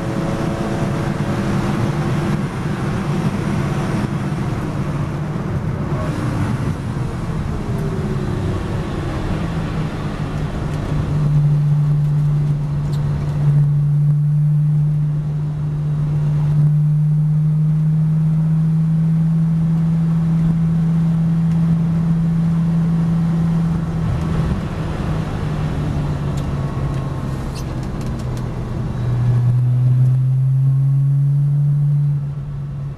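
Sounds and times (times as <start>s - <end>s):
car engine from inside cabin: 0.0s - 32.9s.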